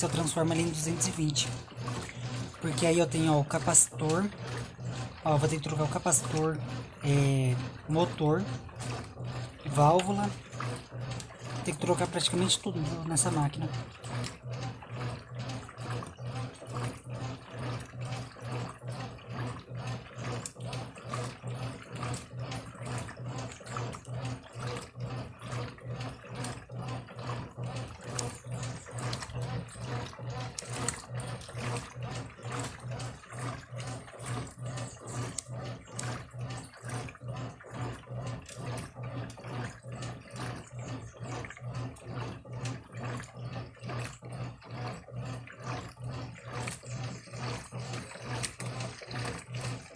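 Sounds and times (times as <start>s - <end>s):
washing machine motor hum: 0.0s - 49.9s
water and clothes sloshing: 0.0s - 49.9s.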